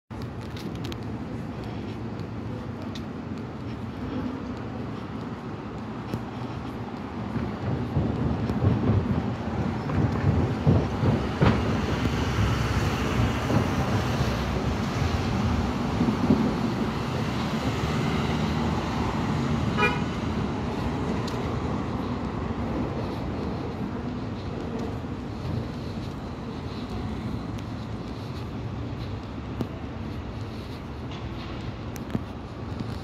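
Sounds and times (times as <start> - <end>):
city traffic noise: 0.1 - 33.0.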